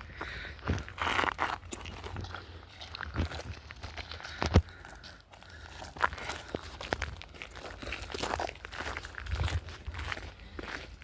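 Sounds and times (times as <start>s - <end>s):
footsteps on rough ground: 0.0s - 11.0s.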